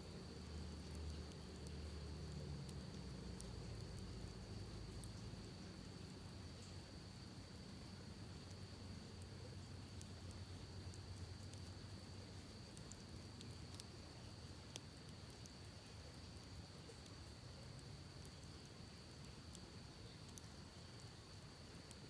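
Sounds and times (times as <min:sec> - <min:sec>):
insect drone: 0:00.0 - 0:22.0
campfire crackling and popping: 0:00.1 - 0:22.0.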